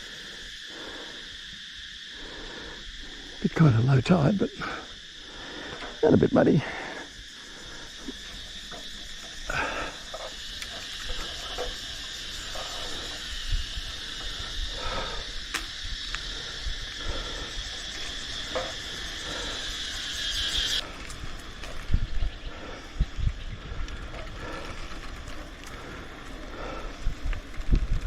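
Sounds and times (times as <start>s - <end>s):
heavy breathing: 0.0s - 3.7s, 4.4s - 21.6s, 22.3s - 27.6s
insect chorus: 0.0s - 28.0s.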